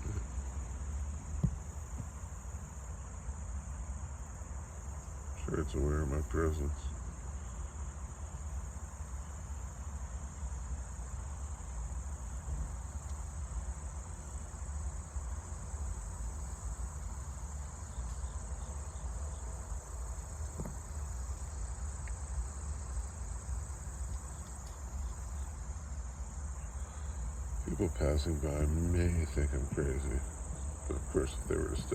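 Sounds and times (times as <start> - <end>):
crickets trilling: 0.0 - 31.9.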